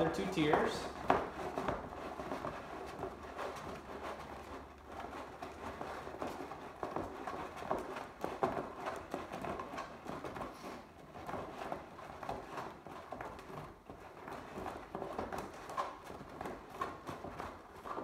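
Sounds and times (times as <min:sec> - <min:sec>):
lace scraping and rustling: 0:00.0 - 0:18.0.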